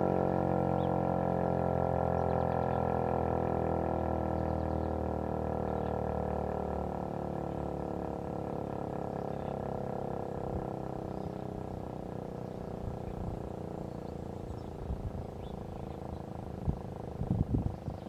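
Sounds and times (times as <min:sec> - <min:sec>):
low rumbles: 0:00.0 - 0:18.0.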